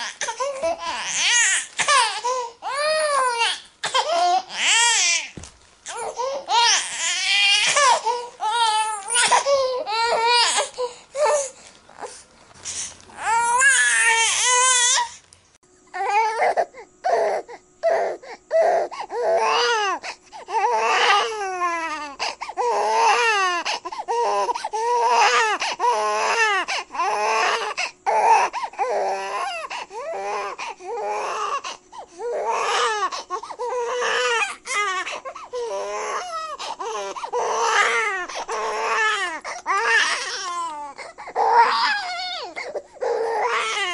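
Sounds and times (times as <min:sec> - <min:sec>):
baby crying: 0:00.0 - 0:11.5, 0:13.2 - 0:15.2, 0:15.9 - 0:43.9
faint steady hum: 0:00.0 - 0:43.9.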